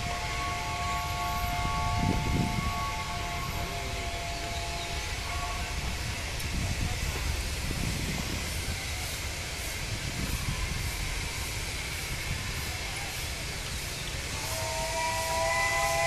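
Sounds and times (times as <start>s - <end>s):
distant steam locomotive hissing: 0.0s - 16.0s.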